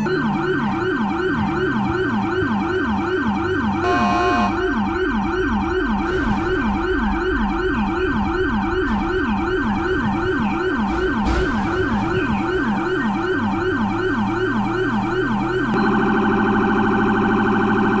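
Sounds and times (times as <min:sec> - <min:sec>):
emergency siren yelping: 0:00.0 - 0:18.0.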